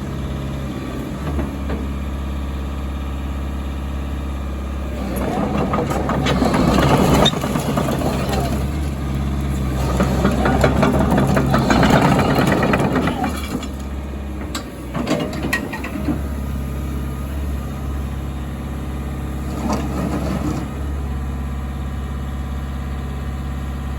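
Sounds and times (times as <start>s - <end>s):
excavator diesel engine: 0.0s - 23.9s.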